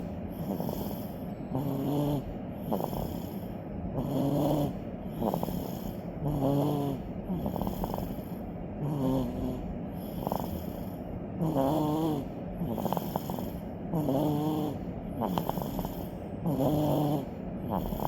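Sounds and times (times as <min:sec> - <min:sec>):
baby snoring: 0:00.0 - 0:18.0.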